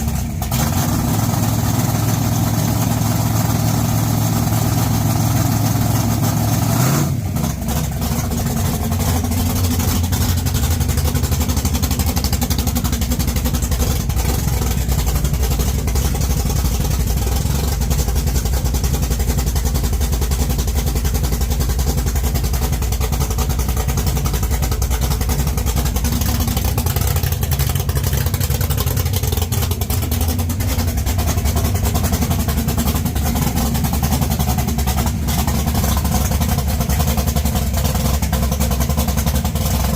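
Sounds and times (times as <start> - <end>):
car engine idling loudly: 0.0 - 39.9.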